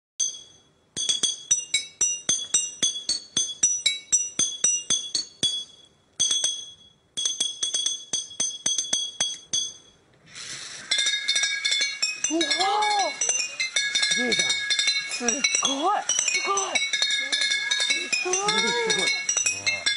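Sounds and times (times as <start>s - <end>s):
glass bottles struck in tune: 0.2s - 19.9s.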